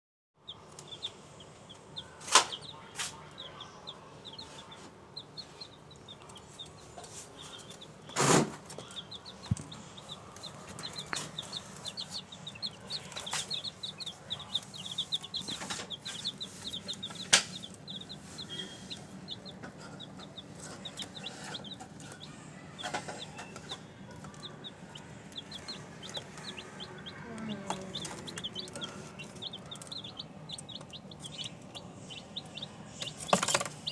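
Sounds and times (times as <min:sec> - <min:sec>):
chicks peeping: 0:00.4 - 0:33.9.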